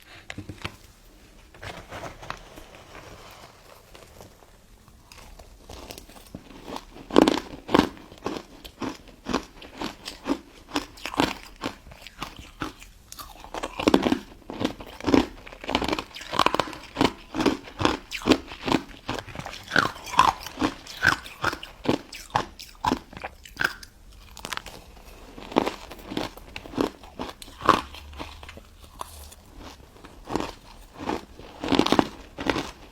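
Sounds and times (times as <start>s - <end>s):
crisp crunching of ice dessert: 2.0s - 32.9s.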